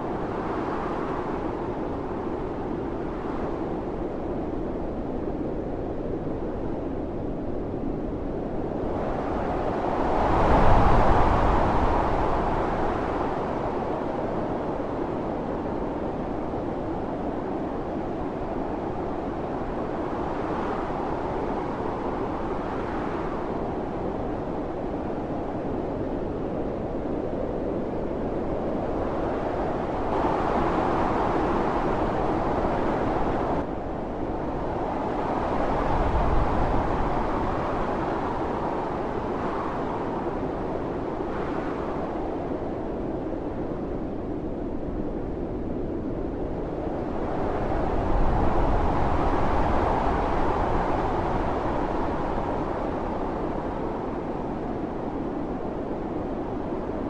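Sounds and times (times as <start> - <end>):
wind howling: 0.0 - 57.0.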